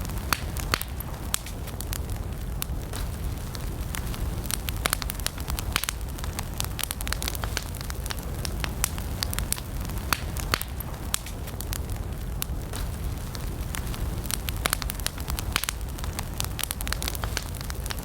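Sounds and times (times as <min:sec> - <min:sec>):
campfire burning: 0:00.0 - 0:18.0.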